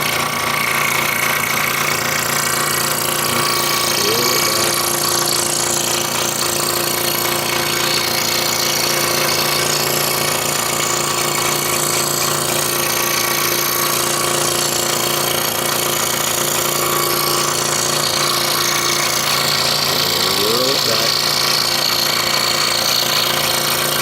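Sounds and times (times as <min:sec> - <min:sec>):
scroll saw cutting wood: 0:00.0 - 0:24.0.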